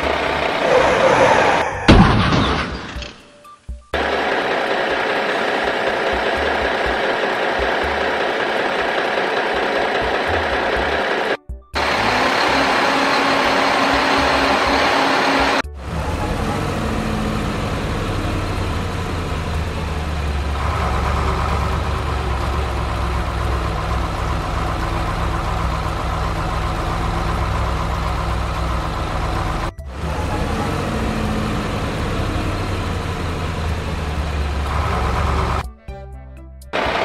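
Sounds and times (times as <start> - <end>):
heavy truck engine idling: 0.0 - 1.1, 4.0 - 35.8, 36.7 - 37.0.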